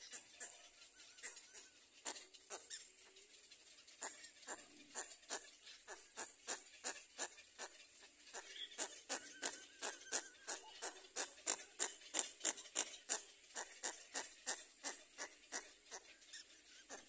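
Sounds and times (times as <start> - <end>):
egret chicks begging calls: 0.0 - 17.0.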